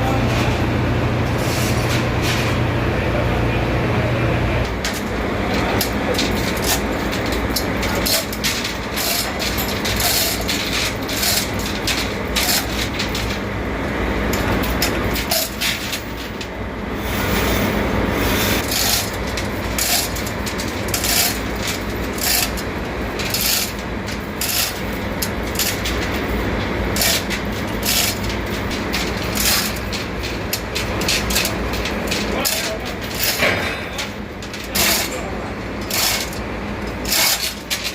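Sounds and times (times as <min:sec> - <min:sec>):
machinery drone: 0:00.0 - 0:37.6.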